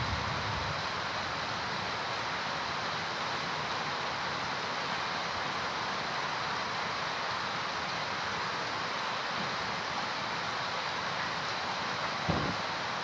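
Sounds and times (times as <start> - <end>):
heavy rain on foliage: 0.0 - 13.0.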